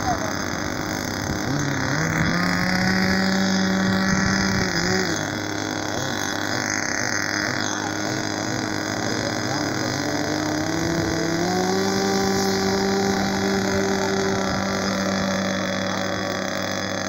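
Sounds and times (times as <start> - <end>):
higher engine tone: 0.0 - 17.0
model airplane engine running: 0.0 - 17.0.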